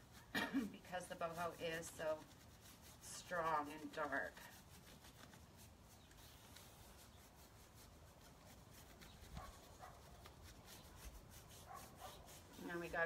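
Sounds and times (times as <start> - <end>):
faint brush scrubbing: 0.0 - 13.0.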